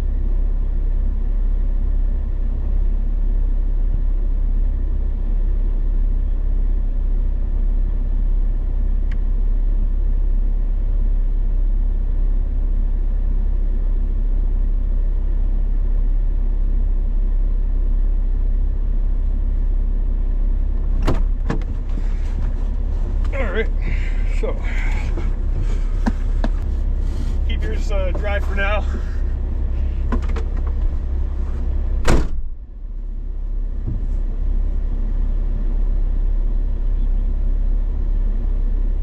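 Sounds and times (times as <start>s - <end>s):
vehicle engine rumble: 0.0s - 39.0s.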